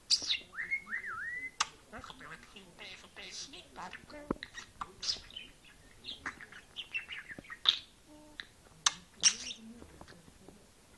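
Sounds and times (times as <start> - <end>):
budgerigar chattering and chirping: 0.1 - 0.8, 1.5 - 9.7.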